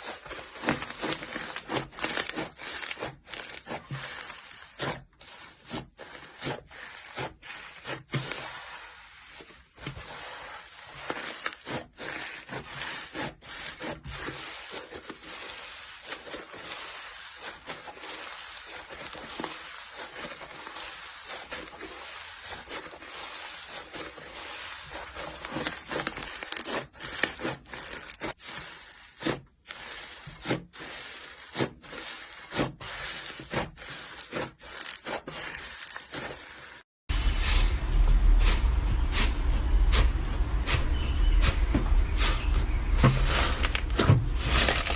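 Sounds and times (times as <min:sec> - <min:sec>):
slime crackling and squelching: 0:00.0 - 0:44.9.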